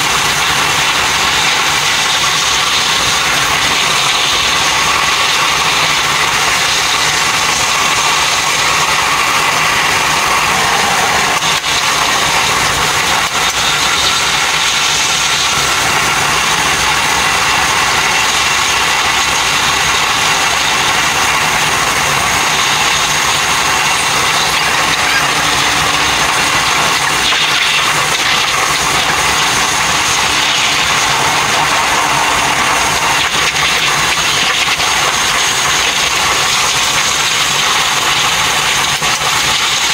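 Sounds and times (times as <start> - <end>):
high rushing train noise: 0.0 - 39.9.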